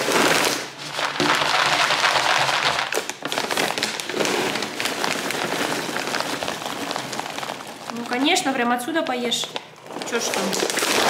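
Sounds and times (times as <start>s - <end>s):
kibble pouring into plastic tub: 0.0s - 11.0s.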